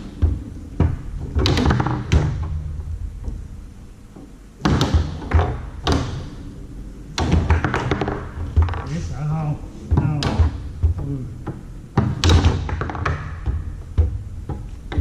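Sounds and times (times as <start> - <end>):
foosball ball knocks and clacks: 0.0 - 3.4, 4.1 - 6.5, 7.1 - 15.0.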